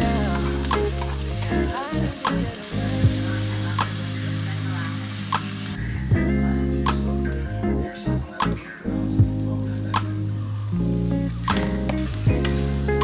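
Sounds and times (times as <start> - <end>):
vegetables sizzling in oil: 0.0 - 7.8, 8.8 - 13.0
music with steady bass: 0.0 - 13.0.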